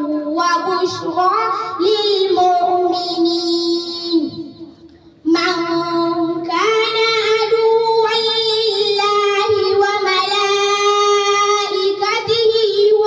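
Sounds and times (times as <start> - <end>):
girl reciting melodically: 0.0 - 13.0.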